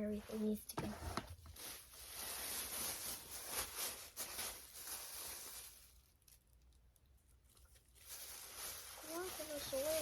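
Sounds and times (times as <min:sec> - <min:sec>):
small toys rustling and knocking: 0:00.0 - 0:10.0.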